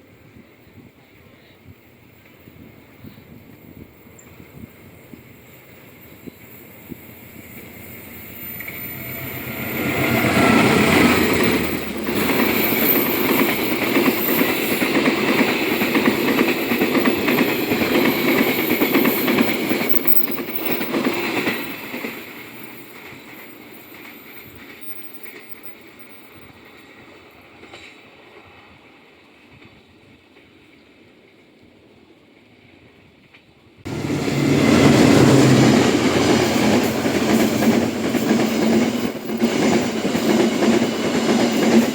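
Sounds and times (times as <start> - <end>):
train passing: 1.8 - 29.8, 33.8 - 41.9.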